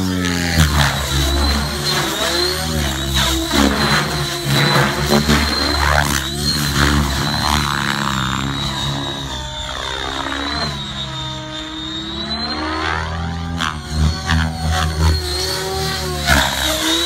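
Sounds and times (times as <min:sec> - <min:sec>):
rc helicopter rotor hum: 0:00.0 - 0:17.0
high thin whine: 0:00.5 - 0:17.0.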